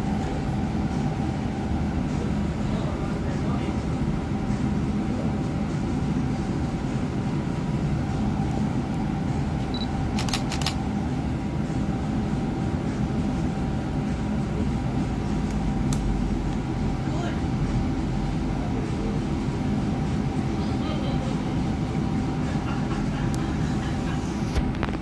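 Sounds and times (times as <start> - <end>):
bus cabin rumble and hum: 0.0 - 25.0.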